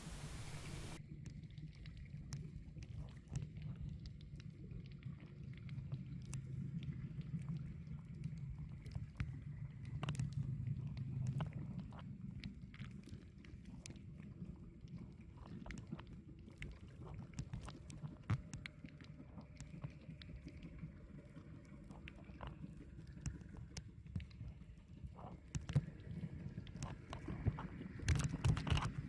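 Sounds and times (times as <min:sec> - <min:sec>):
muffled underwater rumble of boat: 0:00.0 - 0:29.0.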